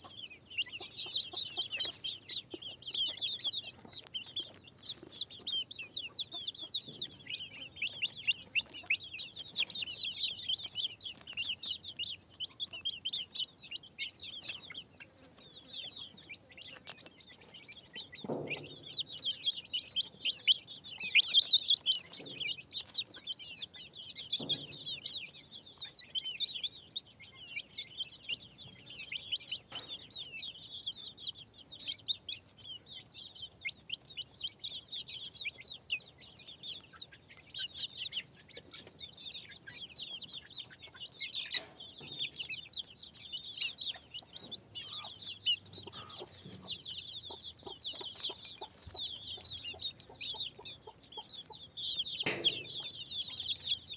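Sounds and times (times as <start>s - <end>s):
chickens chirping: 0.0s - 53.9s
chickens clucking: 0.0s - 53.9s.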